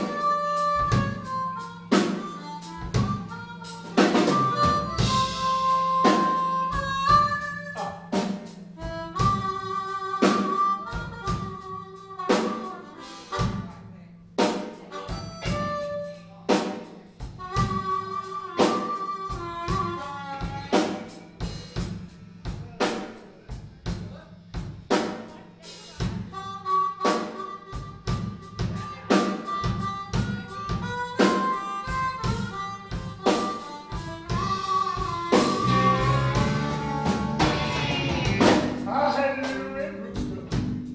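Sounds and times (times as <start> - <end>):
harmonica playing: 0.0 - 21.9, 25.9 - 40.9
blues band playing: 0.0 - 40.9.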